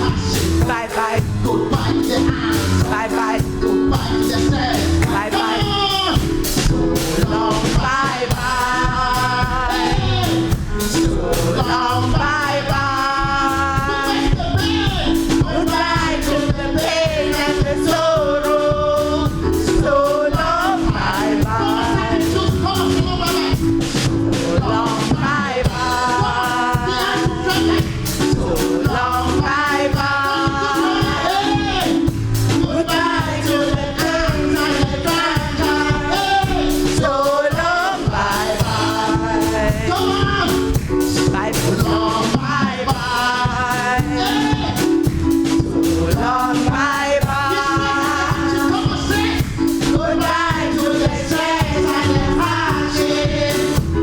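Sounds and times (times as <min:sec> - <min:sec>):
gospel singing with band: 0:00.0 - 0:54.0.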